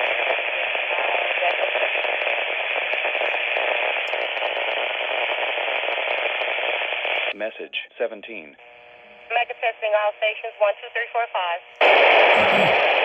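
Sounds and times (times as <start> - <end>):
radio static hiss: 0.0 - 7.6, 8.3 - 13.0.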